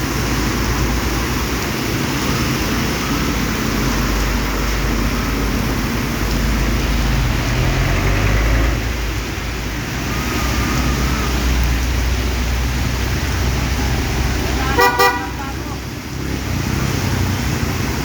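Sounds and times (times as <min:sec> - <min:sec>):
heavy rain hissing: 0:00.0 - 0:18.0
road traffic rumble: 0:00.0 - 0:18.0.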